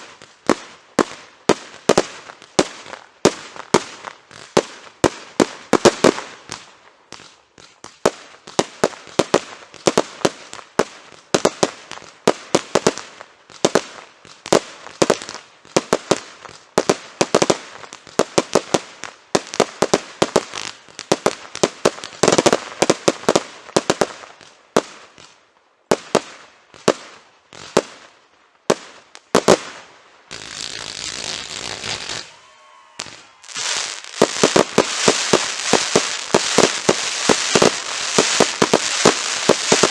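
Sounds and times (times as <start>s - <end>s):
firework crackling: 0.0s - 39.9s.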